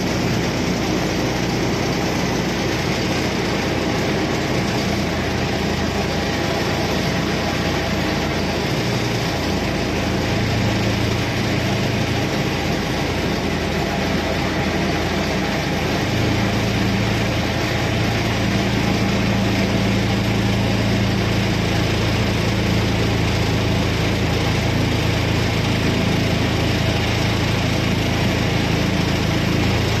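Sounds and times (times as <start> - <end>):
boat engine droning: 0.0 - 30.0
water wash: 0.0 - 30.0.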